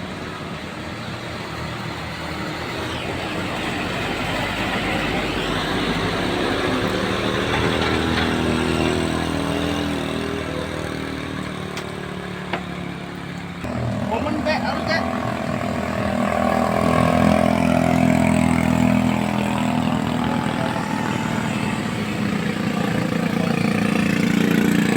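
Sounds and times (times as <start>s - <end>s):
vehicle engine pulling uphill: 0.0s - 24.9s.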